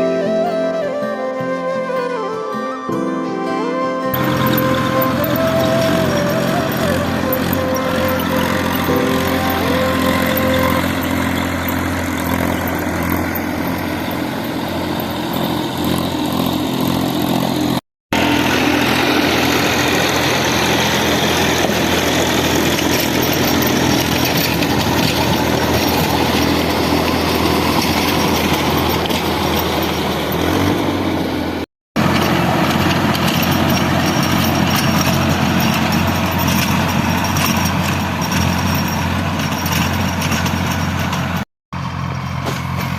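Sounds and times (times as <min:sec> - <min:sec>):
tractor engine running: 0:04.1 - 0:42.9.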